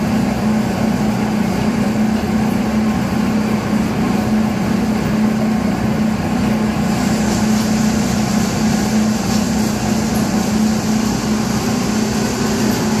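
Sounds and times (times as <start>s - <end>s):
pellet mill humming: 0.0s - 13.0s.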